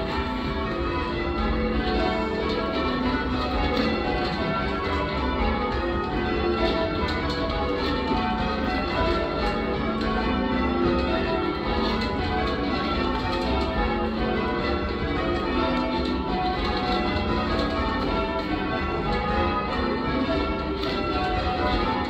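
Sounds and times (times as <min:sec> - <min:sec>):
church bells change ringing: 0:00.0 - 0:22.0.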